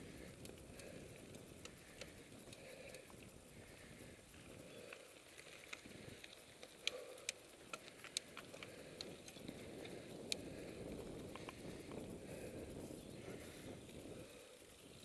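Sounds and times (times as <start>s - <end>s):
bike rattling over bumps: 0.0s - 15.0s
bike tyres rumbling on dirt: 0.0s - 15.0s.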